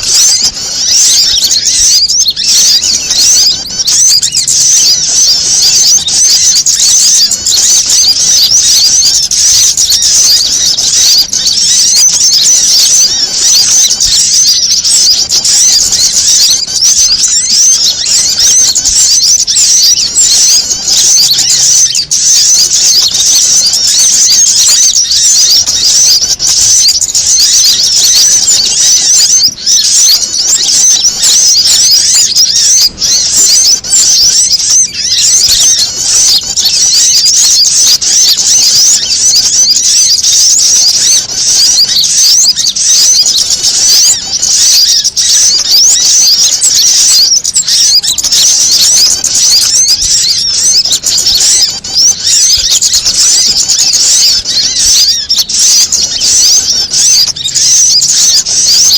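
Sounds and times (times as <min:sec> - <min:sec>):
bird alarm calls: 0:00.0 - 0:58.9
songbirds chirping and trilling: 0:00.0 - 0:58.9.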